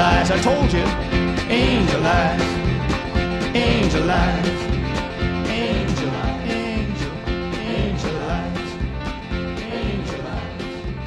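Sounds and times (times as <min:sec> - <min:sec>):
country folk band playing: 0:00.0 - 0:11.0.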